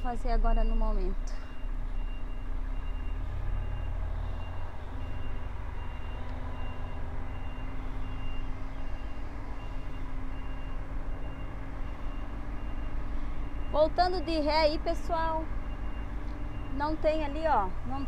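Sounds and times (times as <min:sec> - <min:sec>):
truck engine running: 0:00.0 - 0:18.0
truck reversing alarm beeping: 0:00.0 - 0:18.0.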